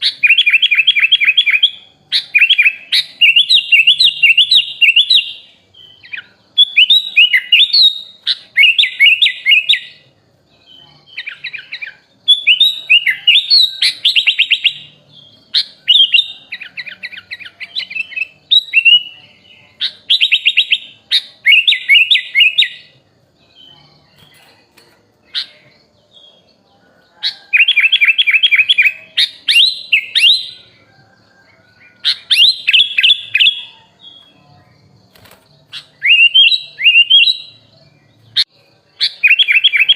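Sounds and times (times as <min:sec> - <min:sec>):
bulbul singing trilled whistles: 0:00.0 - 0:39.9.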